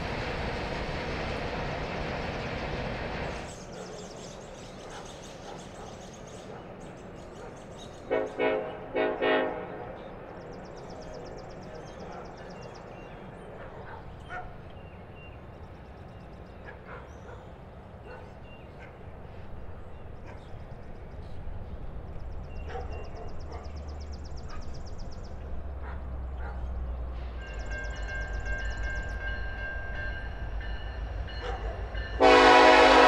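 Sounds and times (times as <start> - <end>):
diesel train rumble: 0.0 - 33.0.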